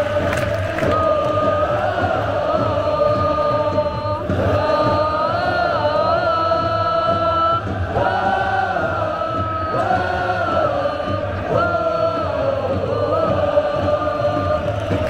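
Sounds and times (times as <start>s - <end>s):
crowd singing a chant: 0.0s - 15.0s.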